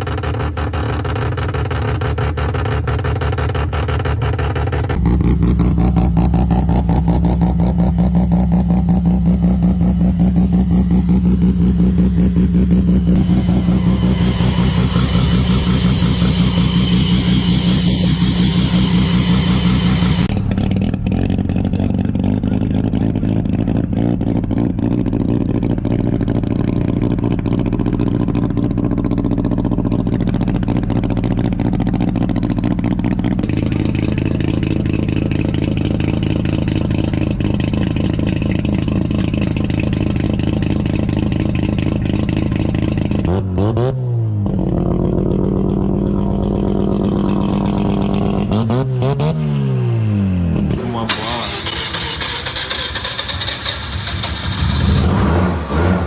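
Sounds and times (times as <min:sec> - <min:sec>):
rotary engine idling and revving: 0:00.0 - 0:56.0.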